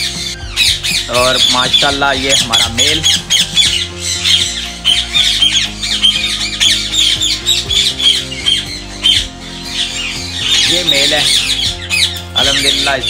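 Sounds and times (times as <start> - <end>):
background music with held notes: 0.0 - 13.0
parakeets squawking: 0.0 - 13.0.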